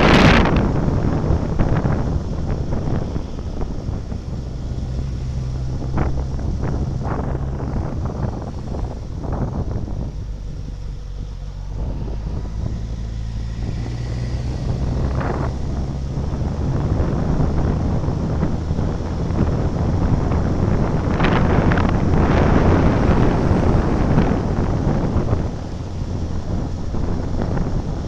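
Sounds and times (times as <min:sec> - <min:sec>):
low engine hum: 0:00.0 - 0:28.0
wind rushing over microphone: 0:00.0 - 0:28.0.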